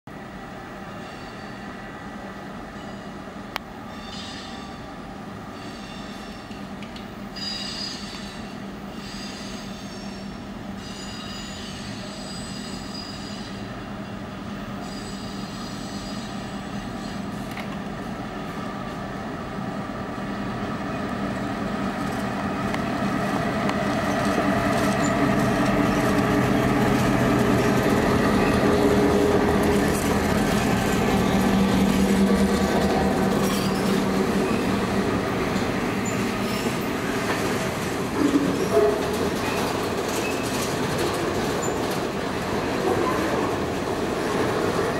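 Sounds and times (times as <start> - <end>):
diesel locomotives droning: 0.2 - 44.9.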